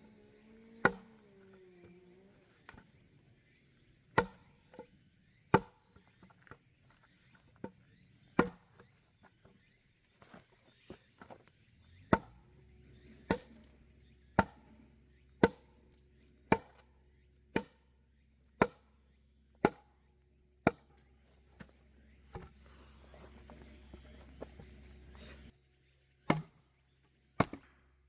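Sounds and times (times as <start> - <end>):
firewood being chopped: 0.2 - 3.0, 4.1 - 4.9, 5.5 - 9.6, 10.2 - 20.0, 20.6 - 25.5, 26.2 - 26.6, 27.4 - 27.8.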